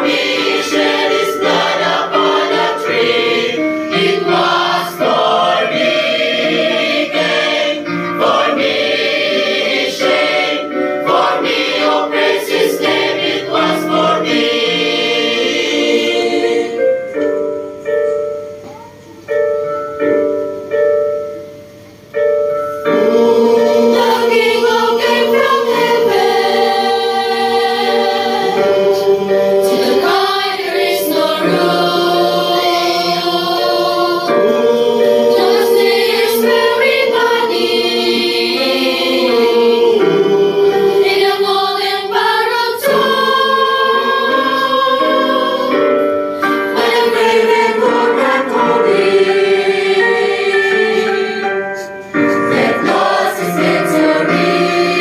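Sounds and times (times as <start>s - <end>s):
choir singing a hymn: 0.0s - 17.8s, 22.7s - 55.0s.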